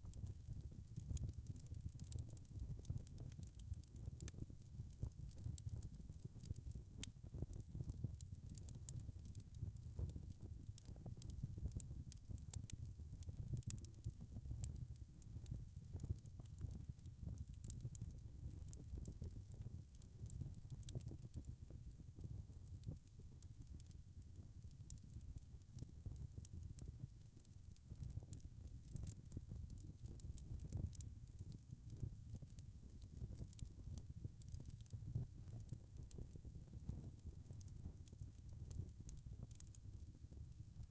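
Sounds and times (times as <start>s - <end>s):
wood fire crackling: 0.2s - 23.9s, 24.8s - 40.9s.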